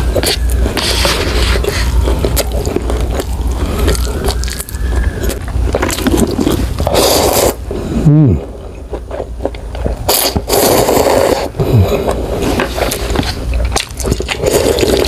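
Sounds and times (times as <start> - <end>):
close chewing and biting: 0.0 - 15.0
steady low hum: 0.0 - 15.0.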